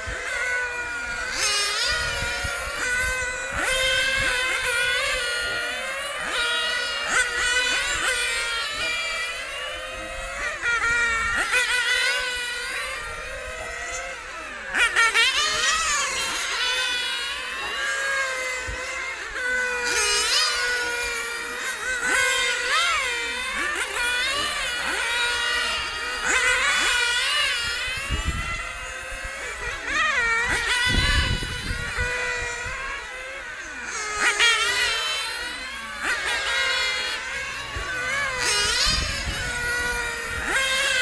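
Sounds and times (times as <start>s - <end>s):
small engines screaming high: 0.0s - 41.0s.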